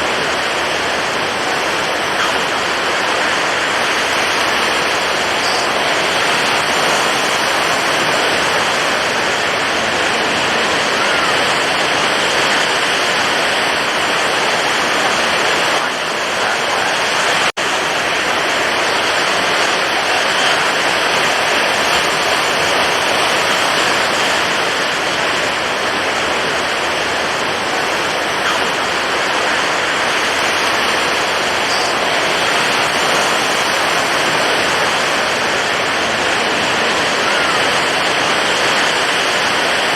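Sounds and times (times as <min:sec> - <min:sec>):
stormy ocean surf roaring: 0:00.0 - 0:39.9.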